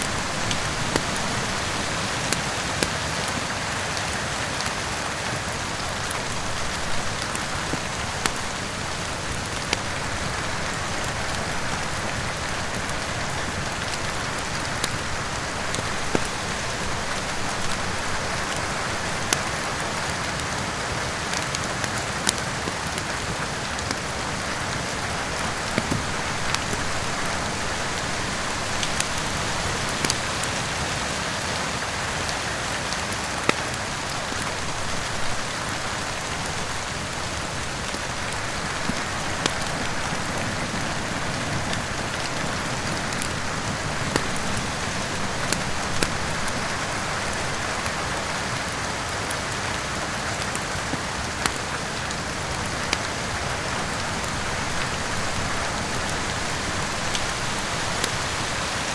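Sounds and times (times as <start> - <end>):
fireplace fire popping: 0.0 - 31.0, 32.2 - 58.9
steady rain: 0.0 - 58.9.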